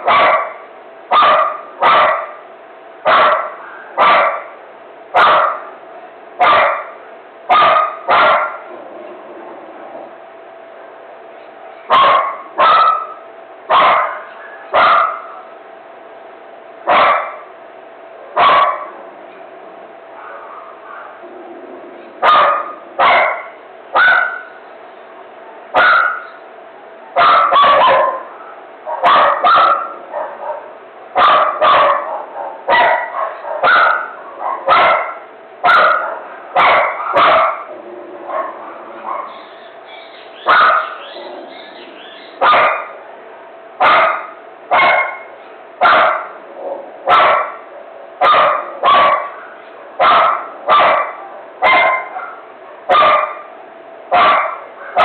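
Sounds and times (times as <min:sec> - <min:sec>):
dog barking frantically: 0:00.0 - 0:05.8, 0:06.4 - 0:08.7, 0:11.8 - 0:15.5, 0:16.8 - 0:17.5, 0:18.3 - 0:19.0, 0:20.1 - 0:21.3, 0:21.9 - 0:24.6, 0:25.6 - 0:26.4, 0:27.1 - 0:43.1, 0:43.8 - 0:55.0.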